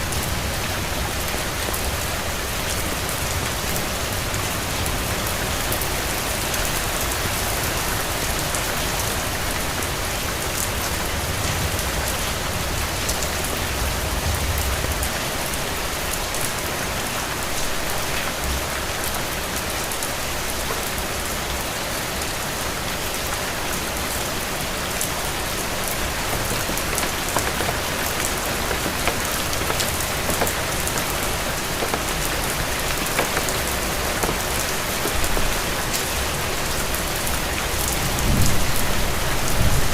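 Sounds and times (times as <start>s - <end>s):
rain on hard surface: 0.0s - 39.9s.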